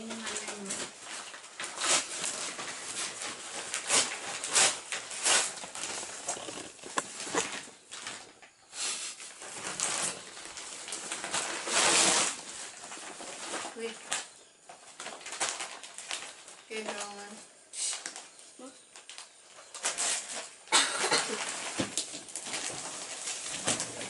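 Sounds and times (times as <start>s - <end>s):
wrapping paper rustling: 0.0s - 8.4s, 9.2s - 20.6s, 21.2s - 24.0s.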